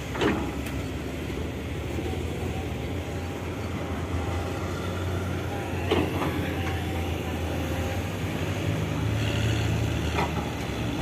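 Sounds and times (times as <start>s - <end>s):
diesel truck engines idling: 0.0s - 11.0s.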